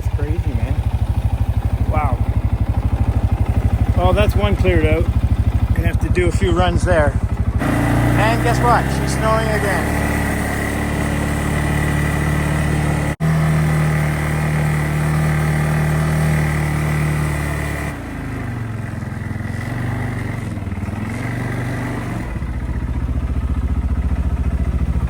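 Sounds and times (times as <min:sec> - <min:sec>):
snow-clearing machine engine: 0:00.0 - 0:25.0.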